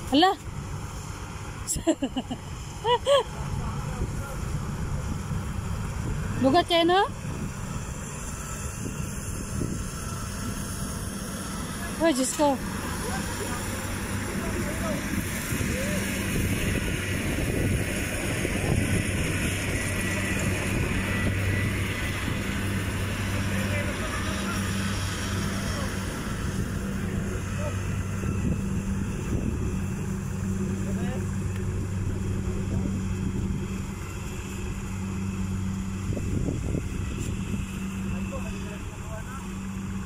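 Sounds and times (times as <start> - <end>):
diesel engine running steadily: 0.0 - 40.0.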